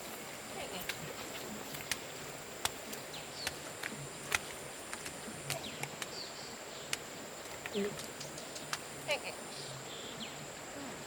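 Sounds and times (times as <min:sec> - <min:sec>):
high insect-like whine: 0:00.0 - 0:11.0.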